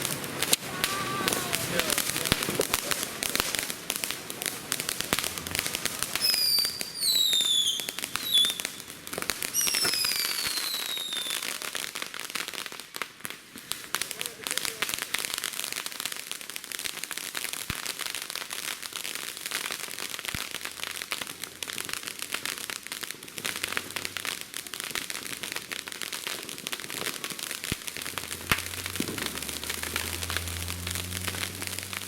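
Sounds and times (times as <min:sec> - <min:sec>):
firework fountain crackling: 0:00.0 - 0:32.0.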